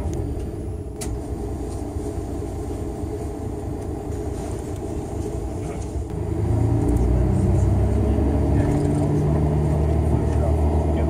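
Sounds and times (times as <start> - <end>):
coach engine and road noise: 0.0 - 11.0.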